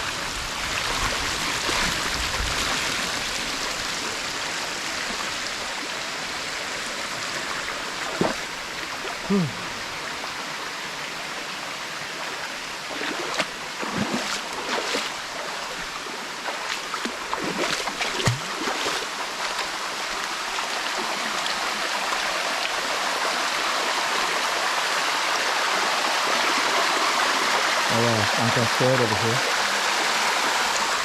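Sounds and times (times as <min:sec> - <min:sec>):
water rushing over rocks: 0:00.0 - 0:31.0
water splashes and gurgles: 0:00.1 - 0:31.0.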